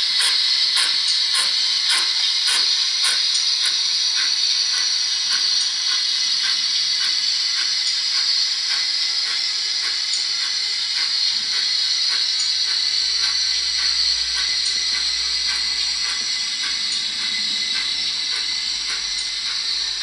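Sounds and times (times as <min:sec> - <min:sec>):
steam hiss: 0:00.0 - 0:20.0
steam locomotive exhaust chuffs: 0:00.0 - 0:20.0.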